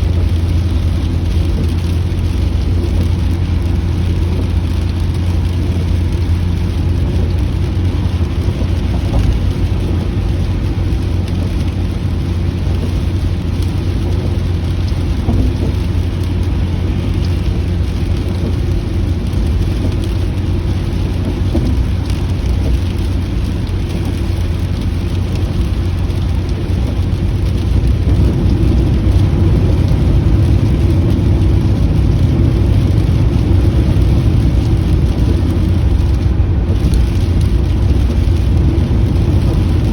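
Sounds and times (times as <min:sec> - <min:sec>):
rain on a moving car: 0:00.0 - 0:39.9
road and engine rumble: 0:00.0 - 0:39.9.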